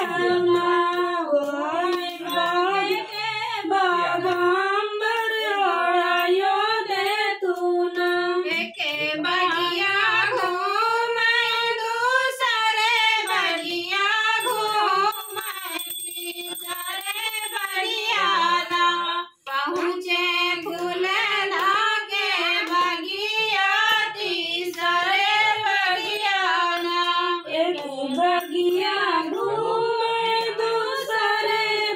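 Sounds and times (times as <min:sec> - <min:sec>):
women singing unaccompanied: 0:00.0 - 0:31.9.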